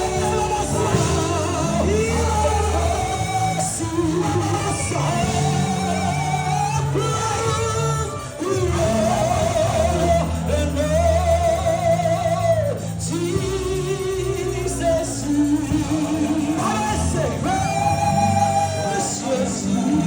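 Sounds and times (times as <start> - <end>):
band with sustained bass: 0.0 - 20.0
person singing with vibrato: 0.0 - 20.0.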